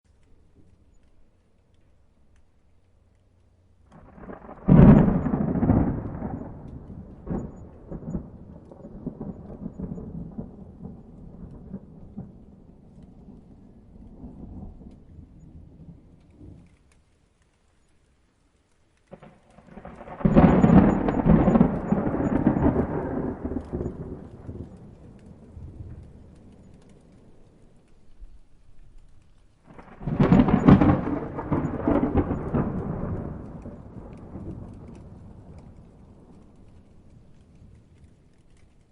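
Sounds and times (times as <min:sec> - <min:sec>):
thunder cracking and rumbling: 0:03.8 - 0:17.0, 0:19.1 - 0:38.9.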